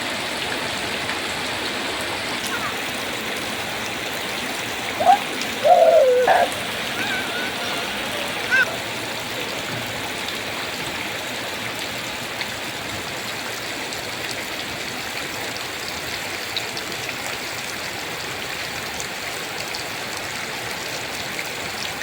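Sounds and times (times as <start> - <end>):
heavy rain falling: 0.0 - 22.0
runoff water running: 0.0 - 22.0
water dripping: 0.1 - 17.8.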